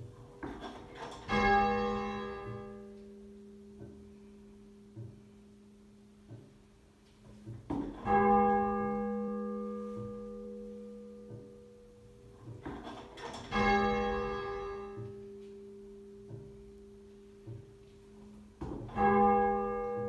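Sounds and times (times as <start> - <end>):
muffled church bell tolling: 0.0 - 20.0.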